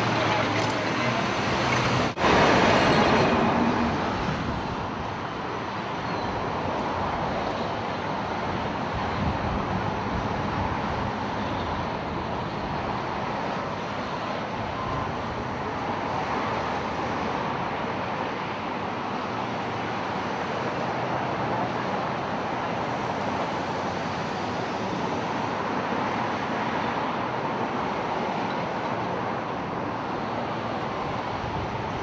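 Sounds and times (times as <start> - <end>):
cars passing on street: 0.0 - 32.0.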